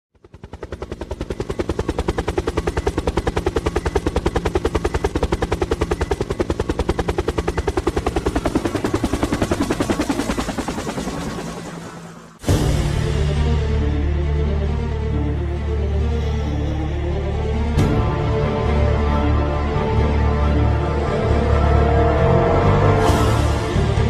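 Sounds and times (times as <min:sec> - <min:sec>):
helicopter rotor beating: 0:00.2 - 0:24.0
music: 0:00.3 - 0:11.0, 0:11.6 - 0:24.0.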